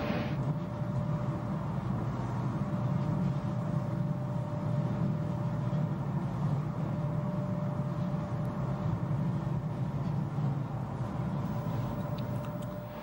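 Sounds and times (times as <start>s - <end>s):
faint constant tone: 0.0s - 13.0s.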